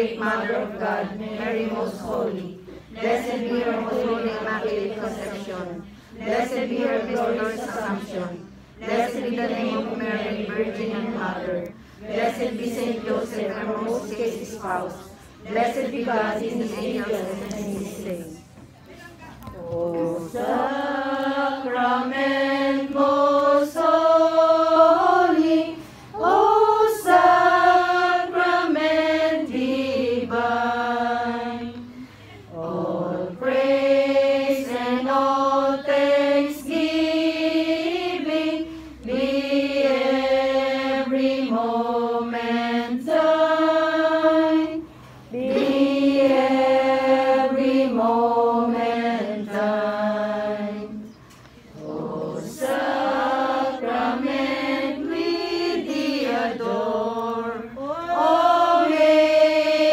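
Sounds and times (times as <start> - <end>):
group singing a hymn: 0.0 - 18.6, 19.4 - 59.9.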